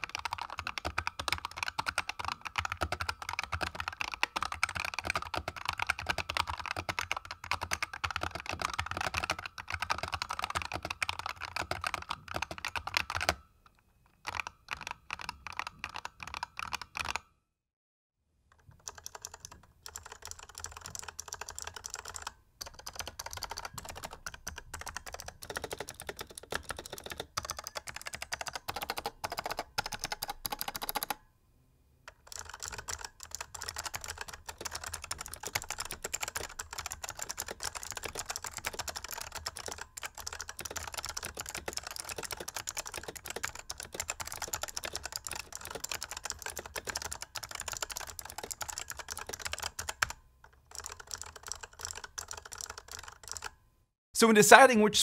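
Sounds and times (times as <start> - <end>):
clicky keyboard typing: 0.0 - 13.5, 14.2 - 17.3, 18.5 - 31.2, 32.1 - 53.6.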